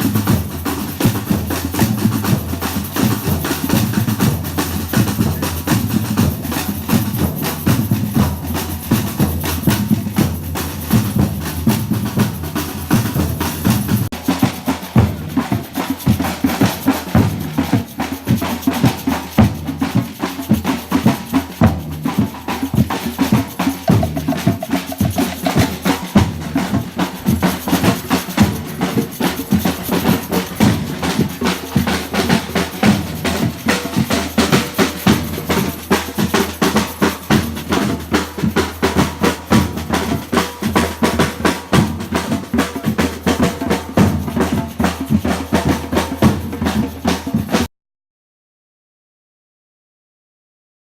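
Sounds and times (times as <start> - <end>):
samba percussion ensemble: 0.0 - 47.7.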